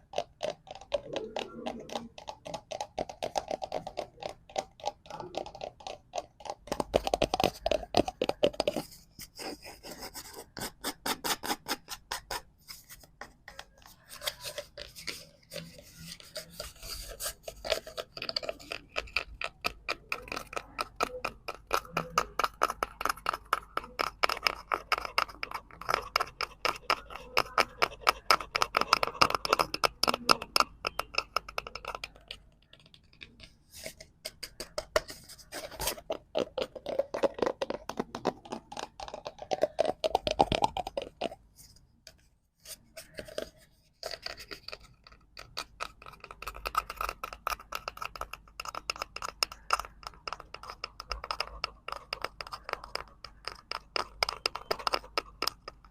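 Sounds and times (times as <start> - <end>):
tapping and scratching on cardboard: 0.0 - 55.9.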